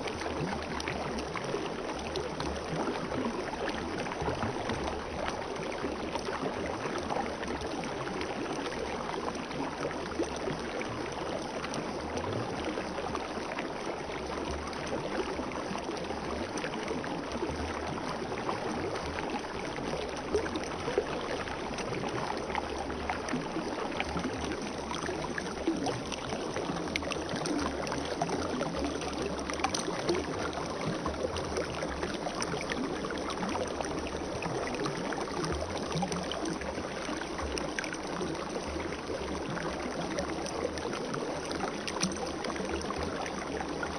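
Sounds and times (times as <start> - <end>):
spring water babbling: 0.0 - 43.9.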